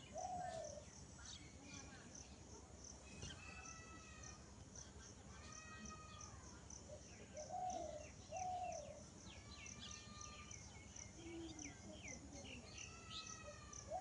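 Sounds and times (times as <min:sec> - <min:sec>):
birds chirping: 0:00.0 - 0:06.2, 0:06.8 - 0:14.0.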